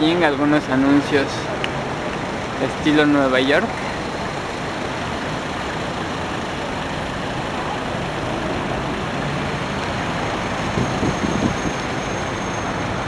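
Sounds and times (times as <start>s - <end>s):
low engine rumble: 0.0s - 13.0s
road traffic: 0.0s - 13.0s.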